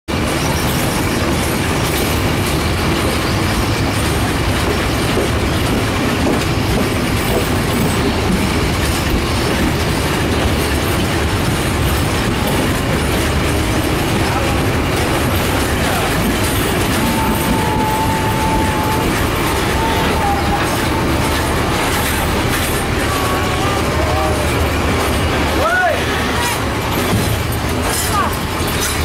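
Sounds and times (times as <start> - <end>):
train wheels running on rails: 0.1 - 29.0.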